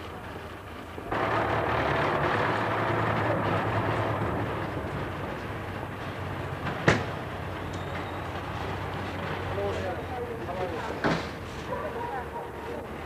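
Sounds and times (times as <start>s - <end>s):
van engine pulling away: 1.0s - 11.6s
tyres on wet road: 1.0s - 13.0s.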